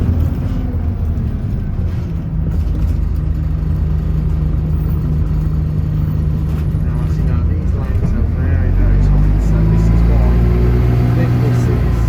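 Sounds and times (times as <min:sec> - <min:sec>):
bus engine note: 0:00.0 - 0:12.0
road noise hum: 0:00.0 - 0:12.0.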